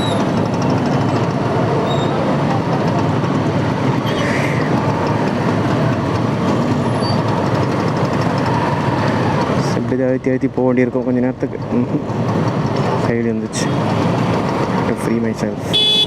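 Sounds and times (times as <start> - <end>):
motorcycle engine: 0.0 - 16.0
traffic engines: 0.0 - 16.0.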